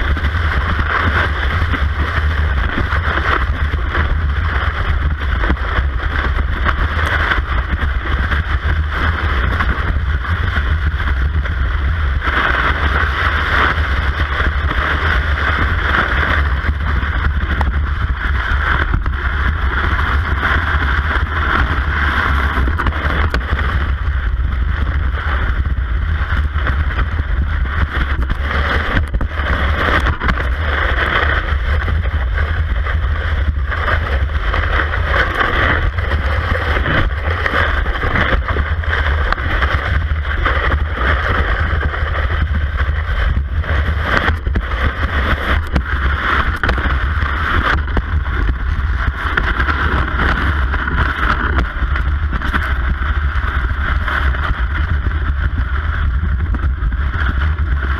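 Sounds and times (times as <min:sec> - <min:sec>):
ski scraping in track: 0:00.0 - 0:57.9
wind on camera: 0:00.0 - 0:57.9.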